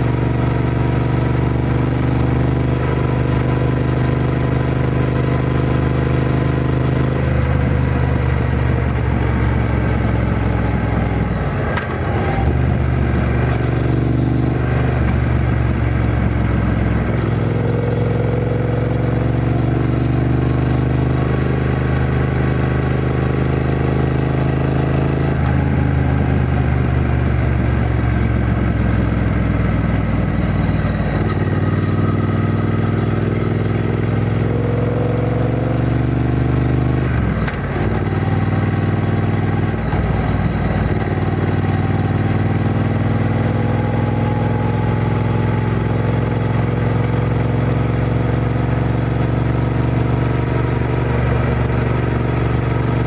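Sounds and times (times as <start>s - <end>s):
motorcycle engine with gear changes: 0.0s - 53.0s.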